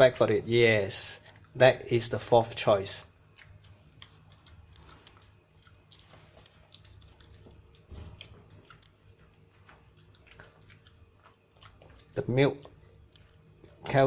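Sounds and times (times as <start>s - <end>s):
dog crunching a biscuit: 2.7s - 14.0s.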